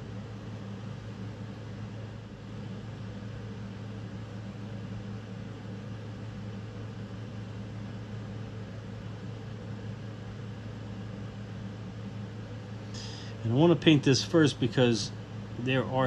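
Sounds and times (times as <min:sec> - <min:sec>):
steady low hum with hiss: 0:00.0 - 0:16.0.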